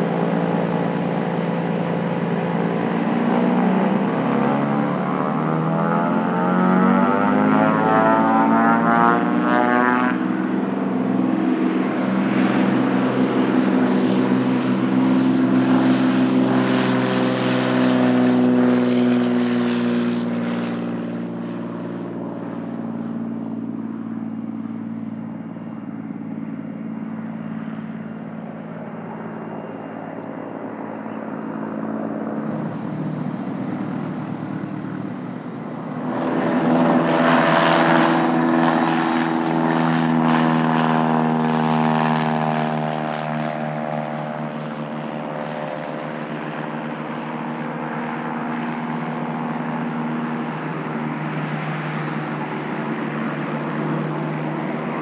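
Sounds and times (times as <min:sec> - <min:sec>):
propeller plane passing: 0:00.0 - 0:55.0
propeller plane taking off: 0:00.0 - 0:55.0.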